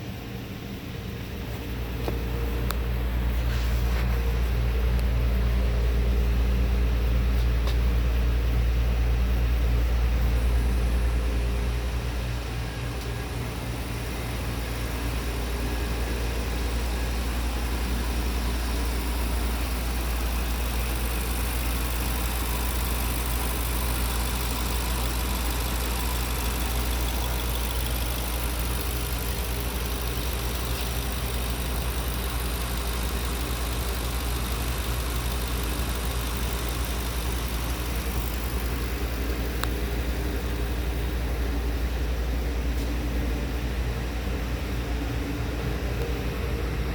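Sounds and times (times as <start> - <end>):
car engine idling: 0.1 - 42.8.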